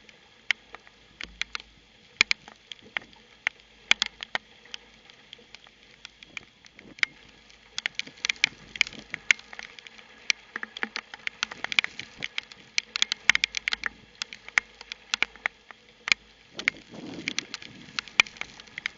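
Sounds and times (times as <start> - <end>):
rain pattering on microphone: 0.0 - 18.9.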